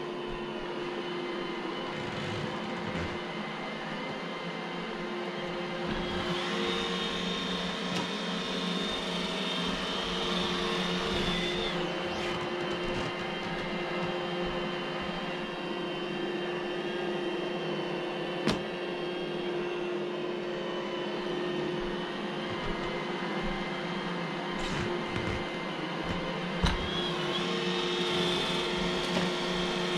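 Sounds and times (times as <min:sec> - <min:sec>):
robot vacuum whirring: 0:01.4 - 0:16.8, 0:20.8 - 0:29.9.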